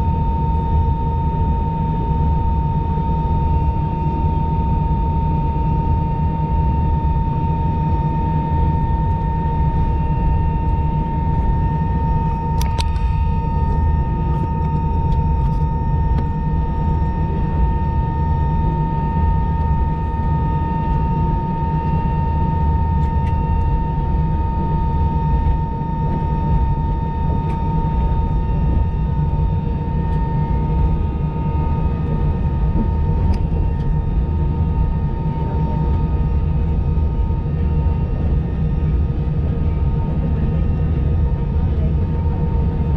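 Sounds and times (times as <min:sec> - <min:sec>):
jet engines idling in cabin: 0:00.0 - 0:42.9.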